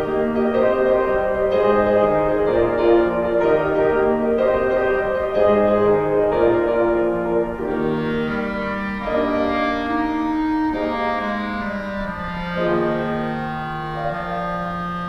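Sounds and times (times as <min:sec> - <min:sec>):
clarinet melody: 0:00.0 - 0:15.0
piano accompaniment: 0:00.0 - 0:15.0.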